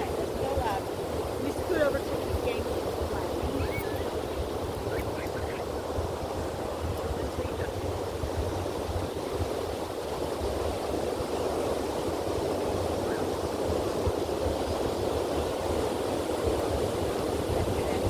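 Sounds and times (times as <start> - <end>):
ocean surf breaking: 0.0 - 18.0
wind rumble on microphone: 0.0 - 18.0.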